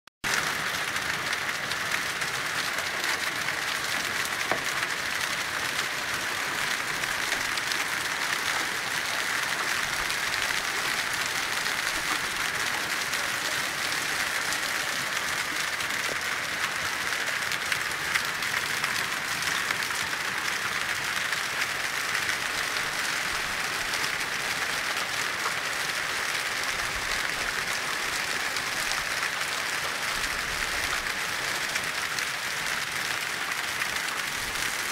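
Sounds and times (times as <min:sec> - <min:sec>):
hail falling on stone paving: 0:00.3 - 0:34.9.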